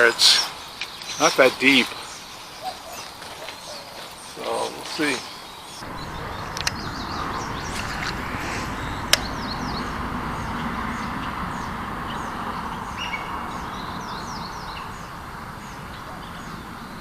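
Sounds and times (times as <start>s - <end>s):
outdoor background hiss: 0.0s - 17.0s
small birds chirping: 0.0s - 17.0s.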